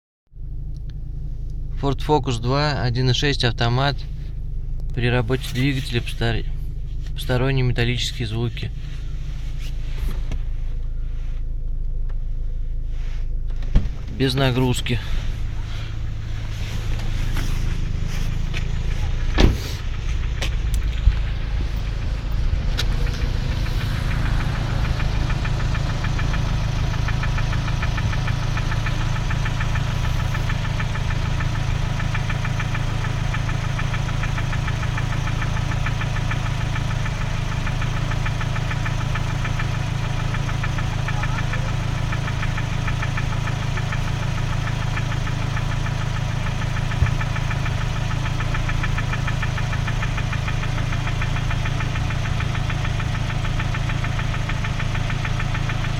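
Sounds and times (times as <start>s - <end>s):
car engine idling: 0.4s - 55.9s.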